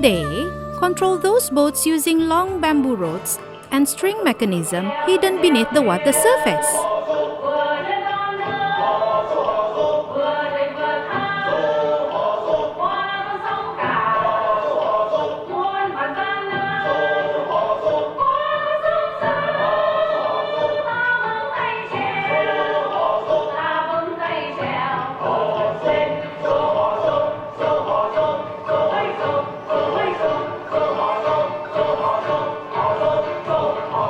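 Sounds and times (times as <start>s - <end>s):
voices singing together: 0.0s - 34.0s.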